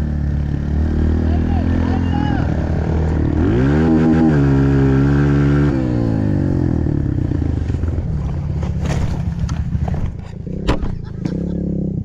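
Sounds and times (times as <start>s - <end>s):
pit bike engine revving: 0.0s - 12.0s.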